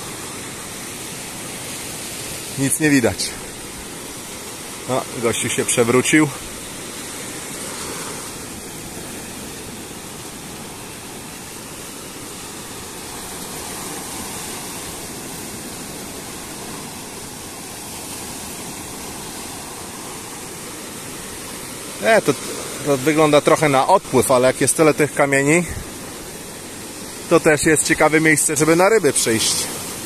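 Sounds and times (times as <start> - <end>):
small waves washing onto sand: 0.0 - 30.0.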